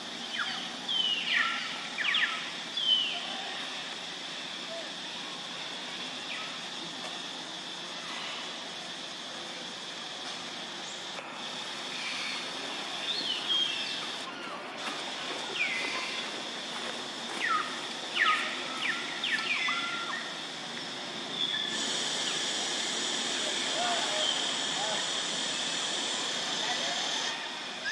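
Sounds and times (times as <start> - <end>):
bright steady hiss: 0.0 - 27.9
insect drone: 0.0 - 27.9.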